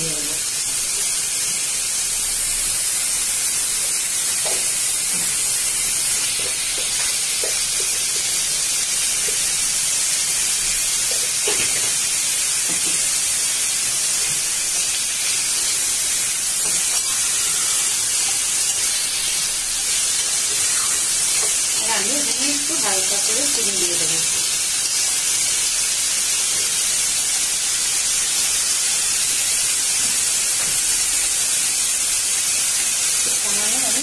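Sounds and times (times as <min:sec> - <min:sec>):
onions sizzling in hot oil: 0:00.0 - 0:34.0.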